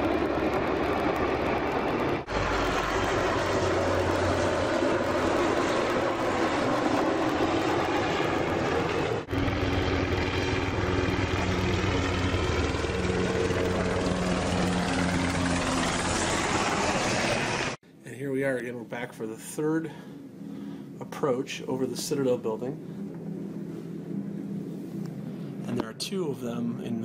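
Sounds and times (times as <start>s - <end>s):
helicopter rotor and turbine: 0.0s - 17.8s, 18.6s - 27.0s.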